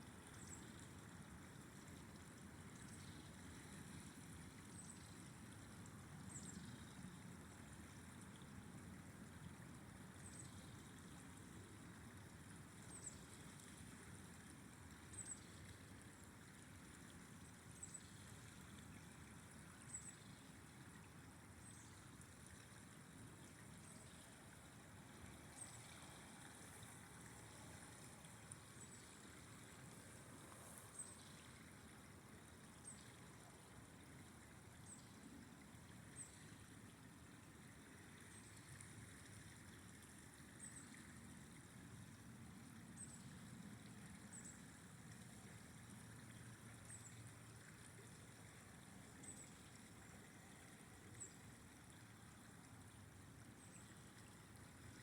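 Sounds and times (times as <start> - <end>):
flowing river: 0.0 - 55.0.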